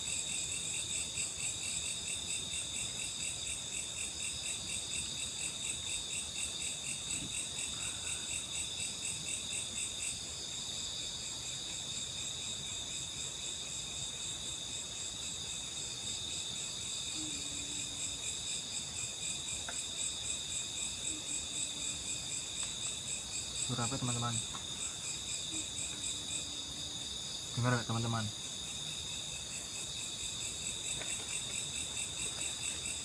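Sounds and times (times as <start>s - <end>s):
night insects chirring: 0.0s - 33.0s.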